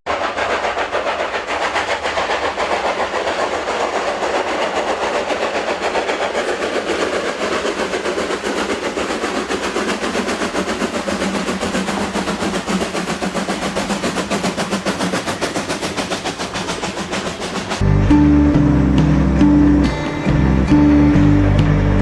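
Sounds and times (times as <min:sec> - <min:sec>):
train rumbling and rattling: 0:00.1 - 0:22.0.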